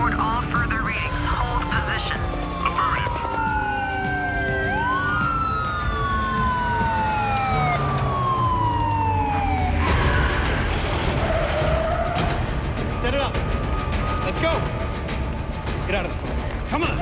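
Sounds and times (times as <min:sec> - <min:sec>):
police sirens wailing: 0:00.0 - 0:17.0.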